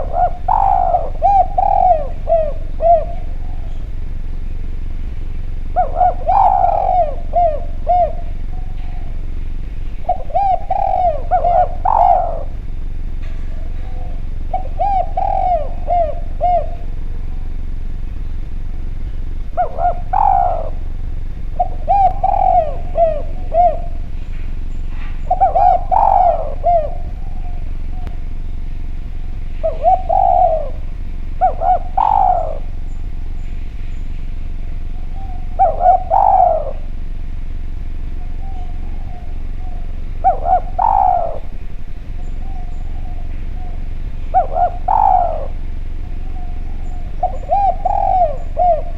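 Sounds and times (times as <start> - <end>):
dove cooing: 0.0 - 48.9
steady low hum: 0.0 - 48.9.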